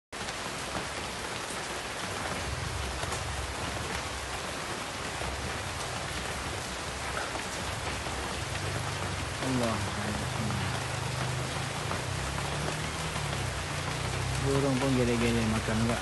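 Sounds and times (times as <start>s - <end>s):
rain falling on leaves: 0.2s - 16.0s.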